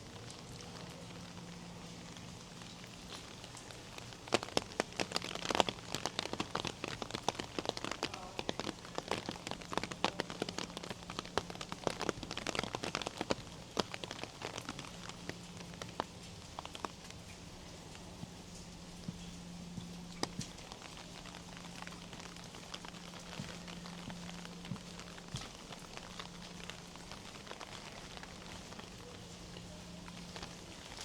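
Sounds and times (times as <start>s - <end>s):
raindrops ticking near microphone: 0.0s - 31.0s.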